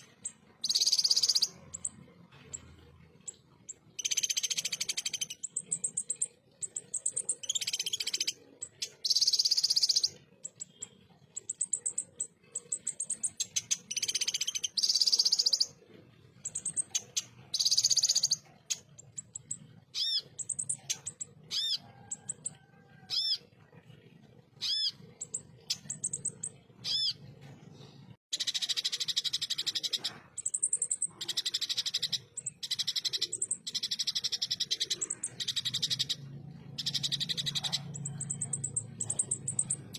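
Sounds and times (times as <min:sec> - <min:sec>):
sunbird buzzy rattling song: 0:00.0 - 0:39.9.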